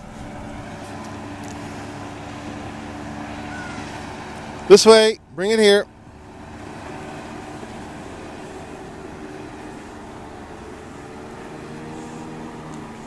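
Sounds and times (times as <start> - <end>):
lake and open-air noise: 0.0 - 13.0
motorboat engine drone: 0.0 - 13.0.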